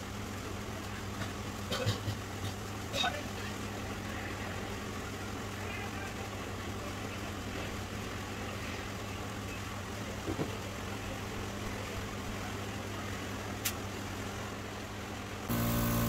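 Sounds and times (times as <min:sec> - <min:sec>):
low machine hum: 0:02.7 - 0:16.0.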